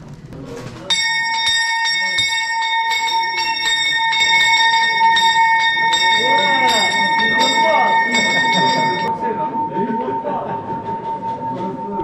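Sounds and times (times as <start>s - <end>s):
bell rung rapidly: 0.9s - 11.9s.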